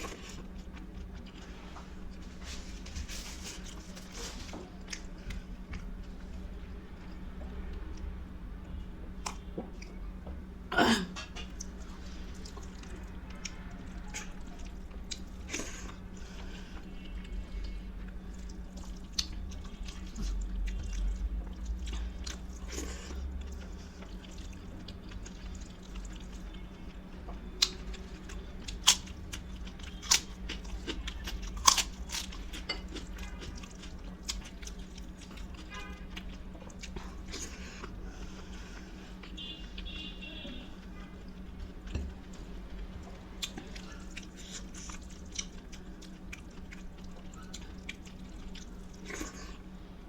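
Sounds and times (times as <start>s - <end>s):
chewing and crunching food: 0.0s - 8.2s, 11.1s - 50.0s
steady low hum: 0.0s - 50.0s.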